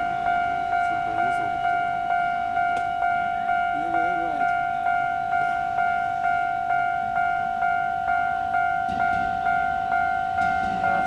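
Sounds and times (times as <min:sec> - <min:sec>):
level crossing warning bell: 0:00.0 - 0:11.0.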